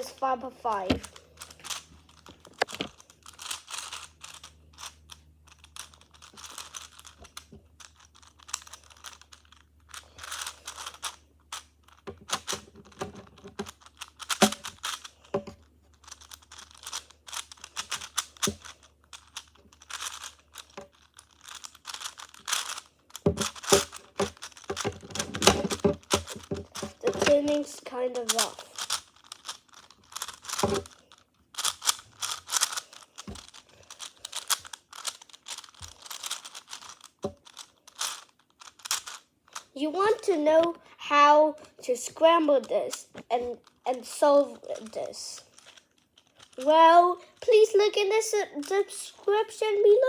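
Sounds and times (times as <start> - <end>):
puzzle cube clicking and rattling: 0.0 - 40.8, 41.5 - 50.0.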